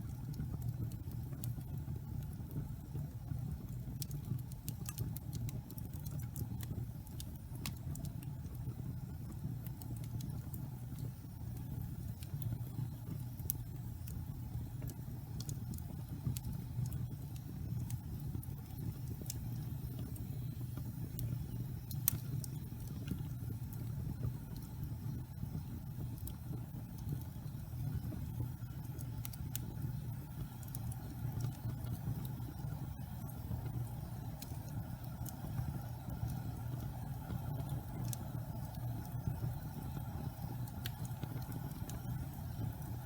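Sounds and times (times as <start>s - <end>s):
fire rumbling: 0.0s - 43.0s
wood crackling and popping: 0.0s - 43.0s.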